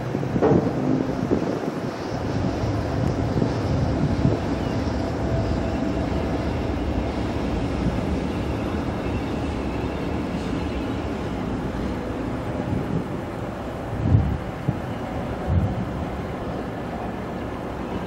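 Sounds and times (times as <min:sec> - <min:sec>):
distant trains rumbling on rails: 0:00.0 - 0:18.0.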